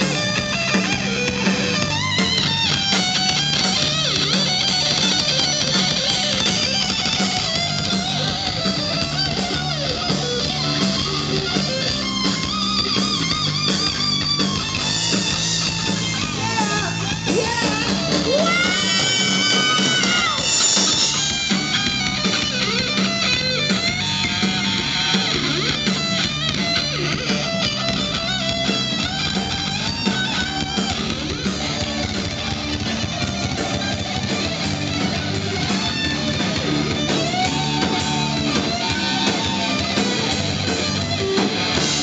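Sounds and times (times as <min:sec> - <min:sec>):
bass guitar: 0:00.0 - 0:42.0
drums: 0:00.0 - 0:42.0
electric guitar lead: 0:00.0 - 0:42.0.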